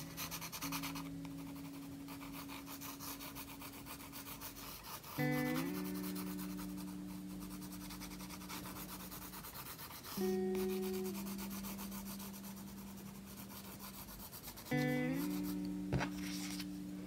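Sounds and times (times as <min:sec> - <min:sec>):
pencil rubbing on paper: 0:00.0 - 0:16.6
soft background music: 0:00.0 - 0:17.0.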